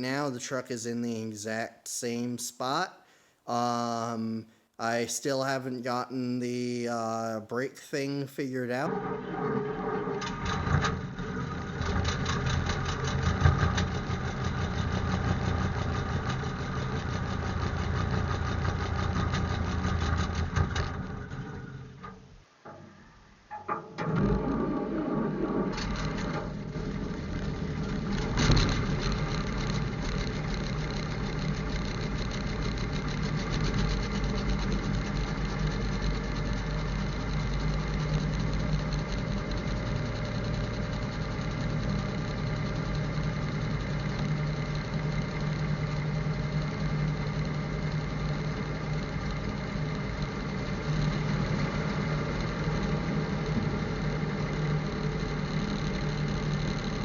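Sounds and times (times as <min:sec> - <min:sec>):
truck engine idling: 0:08.9 - 0:22.0, 0:24.1 - 0:57.0.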